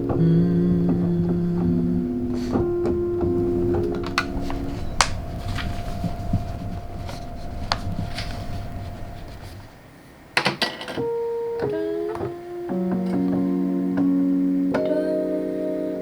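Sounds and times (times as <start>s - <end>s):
steady humming tone: 0.0s - 10.4s, 11.0s - 16.0s
sustained keyboard chords: 0.0s - 16.0s.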